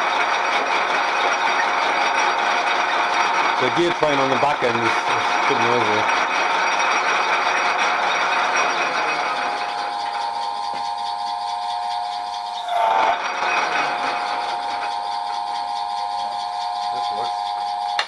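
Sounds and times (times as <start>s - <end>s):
lathe gears whining and rattling: 0.0s - 18.0s.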